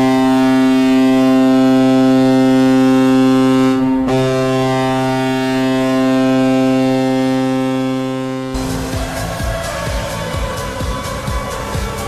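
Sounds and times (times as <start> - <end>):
goal horn low note: 0.0 - 10.7.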